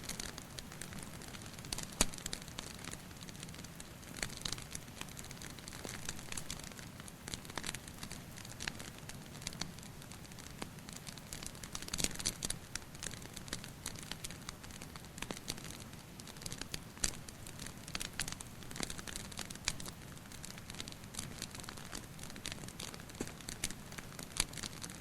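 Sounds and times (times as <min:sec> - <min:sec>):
fire pops: 0:00.0 - 0:09.6, 0:10.5 - 0:25.0
rain water dripping: 0:00.0 - 0:25.0
wood fire crackling: 0:00.0 - 0:25.0.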